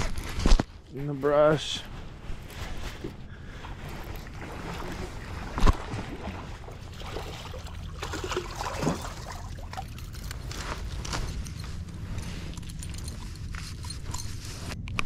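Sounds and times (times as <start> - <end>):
water splashing and sloshing: 2.0 - 14.8.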